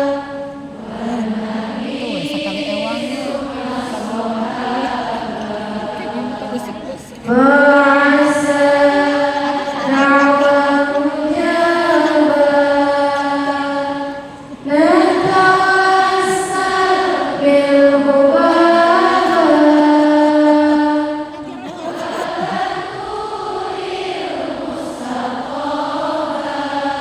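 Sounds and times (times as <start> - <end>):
woman chanting: 0.0 - 27.0.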